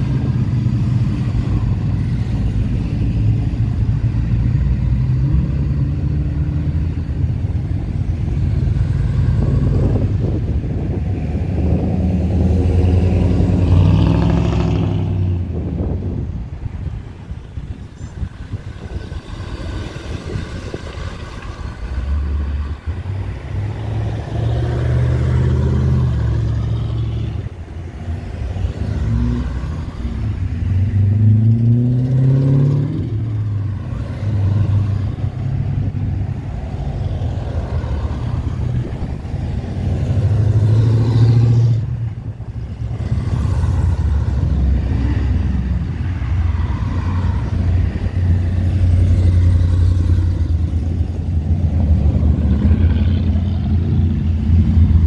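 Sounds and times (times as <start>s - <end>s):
cars driving past: 0.0s - 55.0s.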